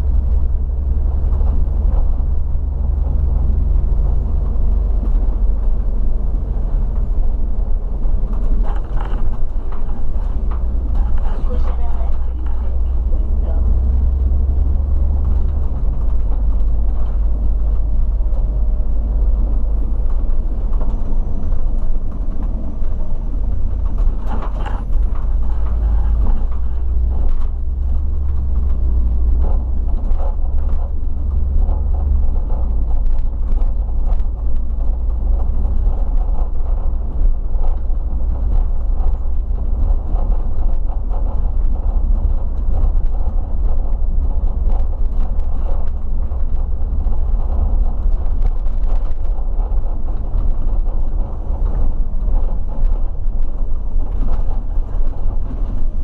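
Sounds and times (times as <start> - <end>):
coach engine and road drone: 0.0 - 56.0
small rattles and clicks: 0.0 - 56.0.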